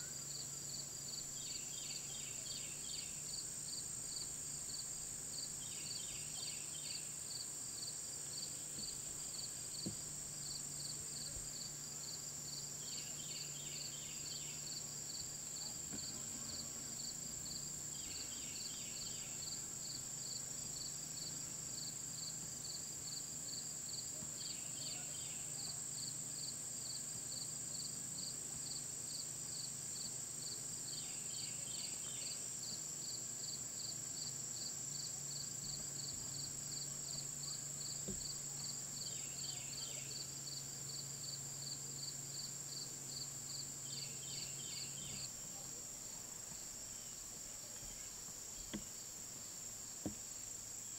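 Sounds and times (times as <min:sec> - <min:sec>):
cricket chirping: 0:00.0 - 0:50.9
faint low hum: 0:00.0 - 0:50.9.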